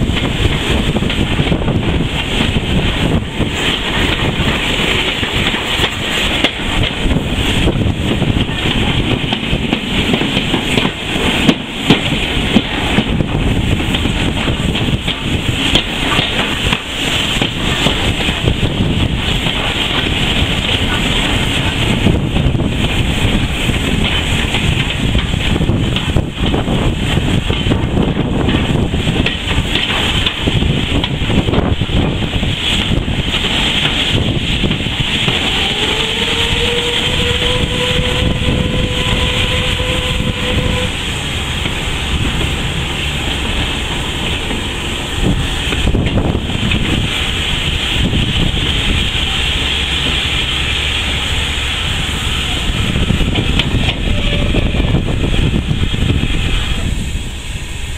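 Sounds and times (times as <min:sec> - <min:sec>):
train rumbling: 0:00.0 - 0:57.9
wind buffeting microphone: 0:00.0 - 0:57.9.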